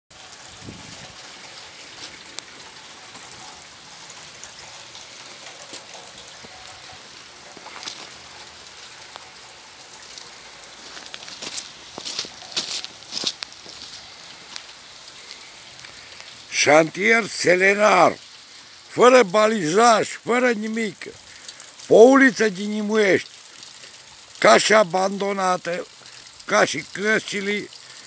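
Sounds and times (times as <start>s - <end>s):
rain pattering on puddles: 0.1s - 28.0s.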